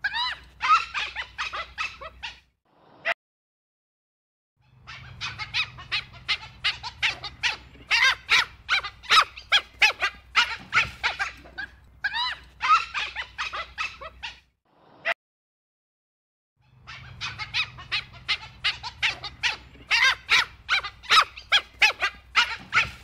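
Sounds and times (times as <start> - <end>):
wild dog squeaky calls: 0.0 - 2.5, 4.6 - 14.5, 16.6 - 23.0.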